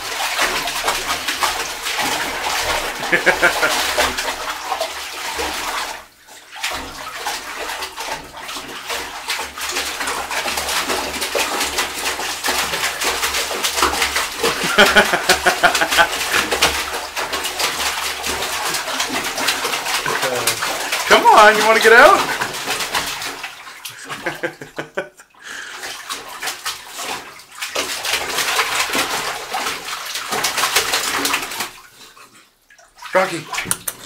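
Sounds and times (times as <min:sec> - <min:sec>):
dog splashing in bathwater: 0:00.0 - 0:34.0.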